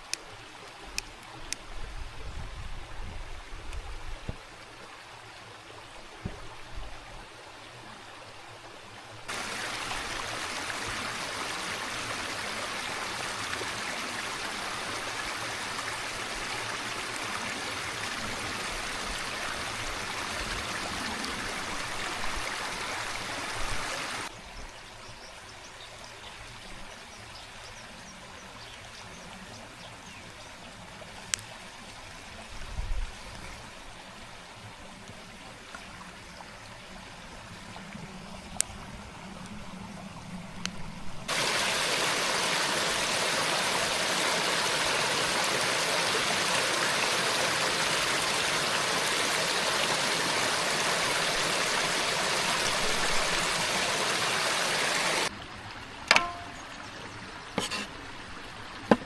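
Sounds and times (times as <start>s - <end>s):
stream water rushing: 0.0s - 24.4s, 25.7s - 59.0s.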